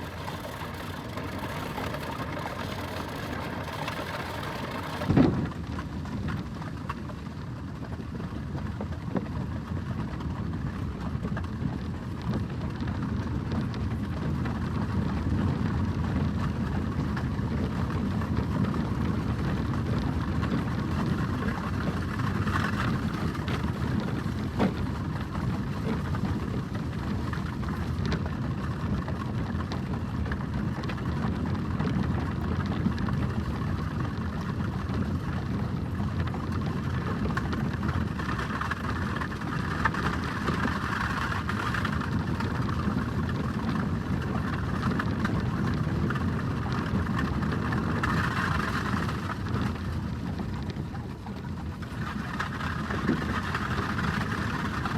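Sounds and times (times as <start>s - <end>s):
carriage wheels rumbling: 0.0s - 54.9s.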